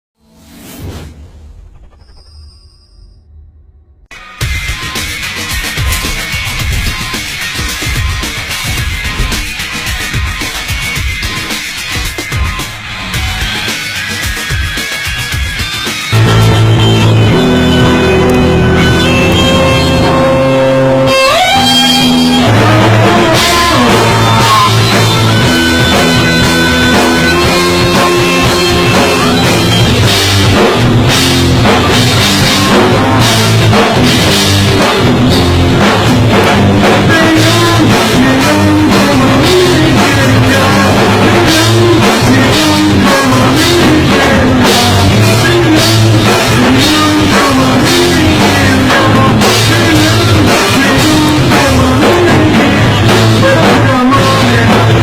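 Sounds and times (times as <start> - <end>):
rock band playing: 4.0 - 55.0.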